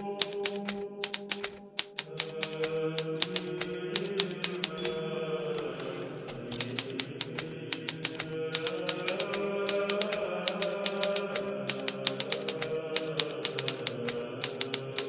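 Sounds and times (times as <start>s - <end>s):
typewriter typing: 0.0s - 15.0s
typewriter bell ring: 0.2s - 15.0s.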